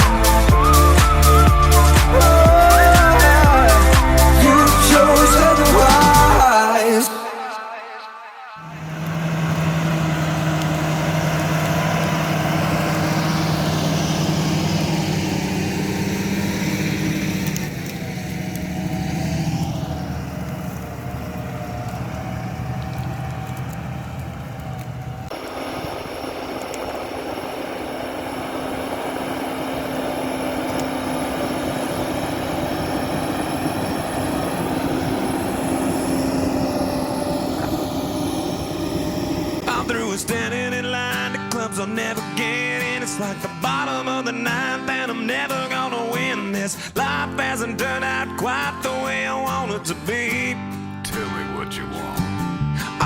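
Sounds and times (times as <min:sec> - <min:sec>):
tractor engines running under load: 0:00.0 - 0:06.6, 0:08.6 - 0:53.0.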